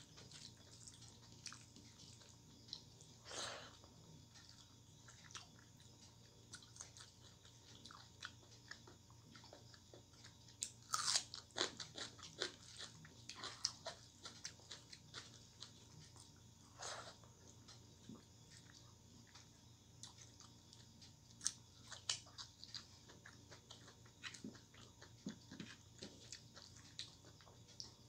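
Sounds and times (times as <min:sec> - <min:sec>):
chewing crackles: 0:00.0 - 0:28.0.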